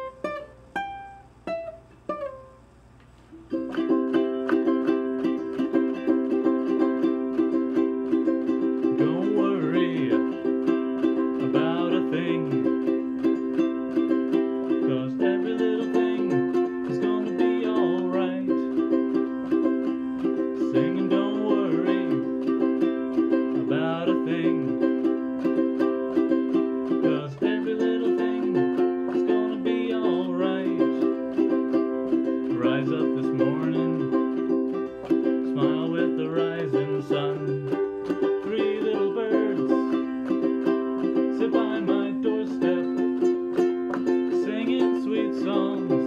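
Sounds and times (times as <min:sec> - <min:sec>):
ukulele strumming: 0:00.0 - 0:46.0
man singing: 0:03.8 - 0:46.0.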